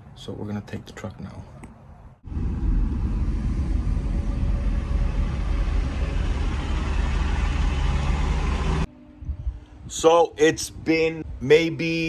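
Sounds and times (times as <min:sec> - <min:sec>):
truck engine and road rumble: 0:00.0 - 0:10.0.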